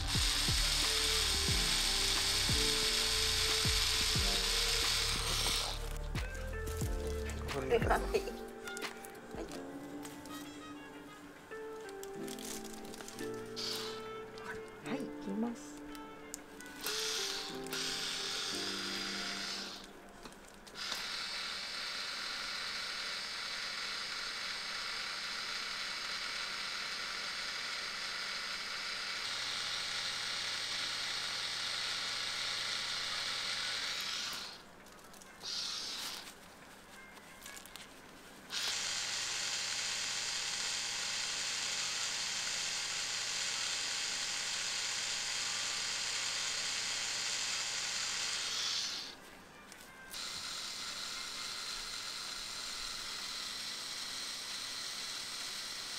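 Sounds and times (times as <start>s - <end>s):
tattoo machine buzzing: 0.0s - 15.2s, 15.8s - 20.1s, 20.7s - 34.7s, 35.4s - 36.4s, 38.5s - 49.2s, 50.0s - 55.9s.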